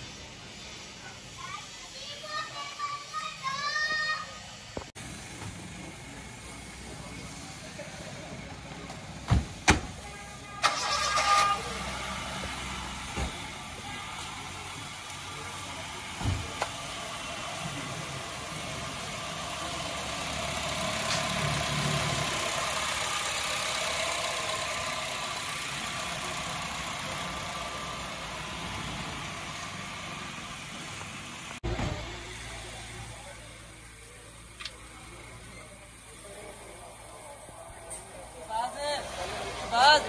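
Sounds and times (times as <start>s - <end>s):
car engine idling: 5.0s - 40.0s.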